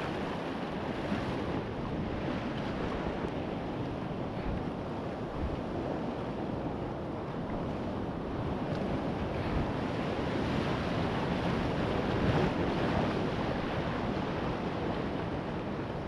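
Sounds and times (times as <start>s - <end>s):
surf breaking and washing: 0.0s - 16.0s
wind buffeting microphone: 0.0s - 16.0s.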